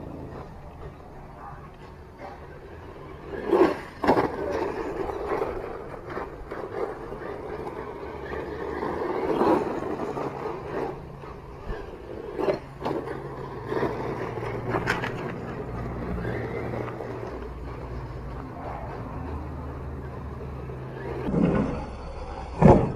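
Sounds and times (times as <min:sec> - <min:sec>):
rc truck drivetrain noise: 0:00.0 - 0:22.9.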